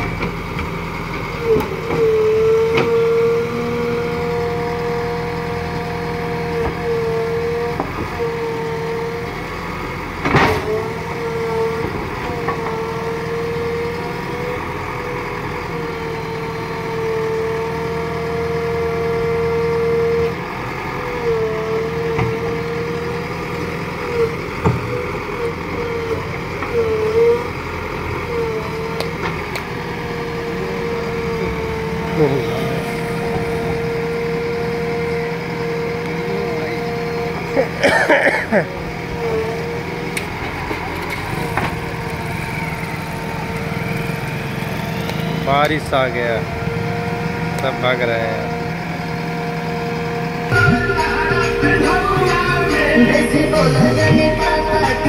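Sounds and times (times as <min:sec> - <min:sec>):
backhoe diesel engine whining: 0:00.0 - 0:55.0.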